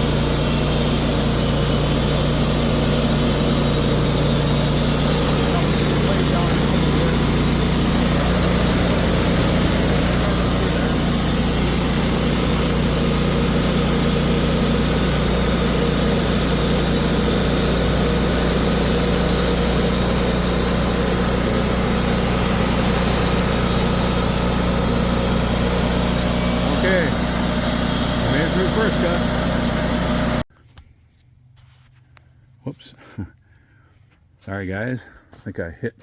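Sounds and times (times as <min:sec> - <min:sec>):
band blade cutting wood: 0:00.0 - 0:30.4
sawmill engine running: 0:00.0 - 0:30.5.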